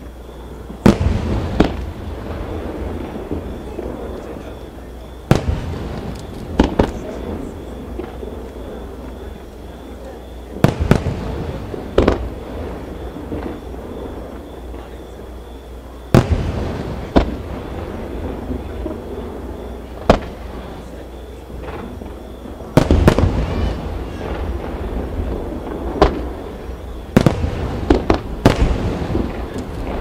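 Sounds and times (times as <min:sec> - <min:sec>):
firework bangs with echo: 0:00.7 - 0:30.0.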